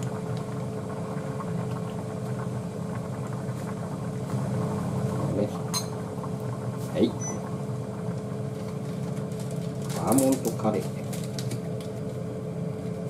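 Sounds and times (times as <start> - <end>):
broth simmering in saucepan: 0.0 - 10.8
kitchen equipment humming: 0.0 - 13.0.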